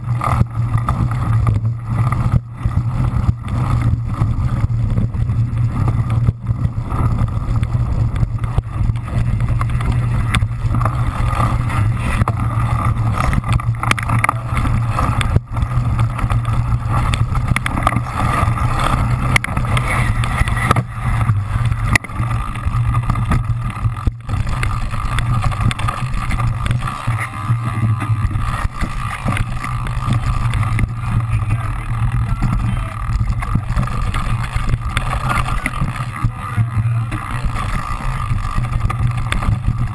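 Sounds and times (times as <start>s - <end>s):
bike knocks and rattles: 0.0s - 39.9s
wind rumble on camera: 0.0s - 39.9s.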